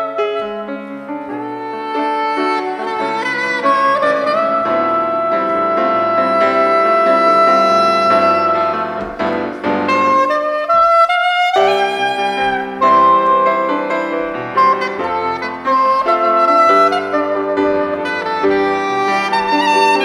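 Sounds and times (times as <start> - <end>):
saxophone melody: 0.0 - 20.0
sparse piano chords: 0.0 - 20.0.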